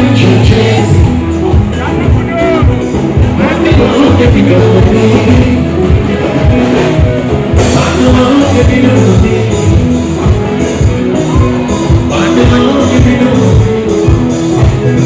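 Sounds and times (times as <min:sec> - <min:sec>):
drum kit: 0:00.0 - 0:15.0
electric guitar: 0:00.0 - 0:15.0
person singing: 0:00.0 - 0:15.0.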